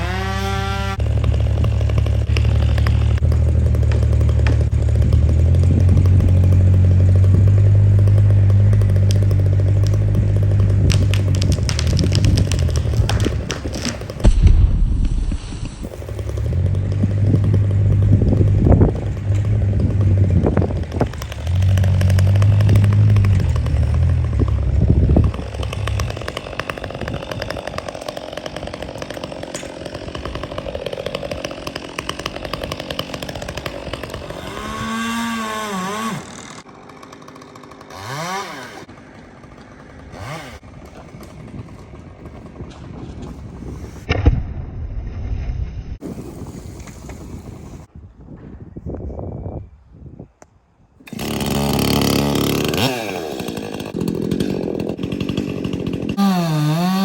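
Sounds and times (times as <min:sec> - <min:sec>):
chainsaw cutting and revving: 0:00.0 - 0:44.1, 0:46.0 - 0:47.9, 0:51.0 - 0:57.0.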